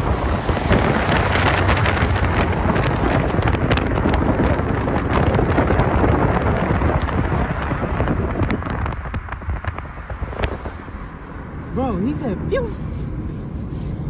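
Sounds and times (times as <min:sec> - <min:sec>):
vehicles passing: 0:00.0 - 0:14.0
wind buffeting microphone: 0:00.0 - 0:14.0.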